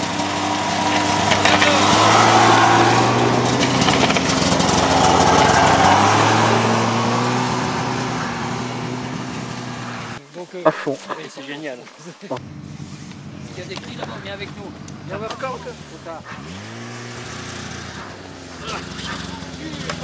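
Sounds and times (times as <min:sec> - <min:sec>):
snowmobiles passing by: 0:00.0 - 0:10.2, 0:12.4 - 0:20.0.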